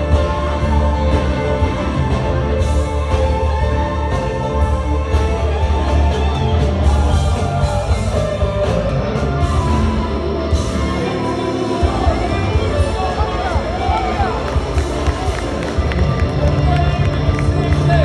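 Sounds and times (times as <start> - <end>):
live blues band playing: 0.0 - 18.0.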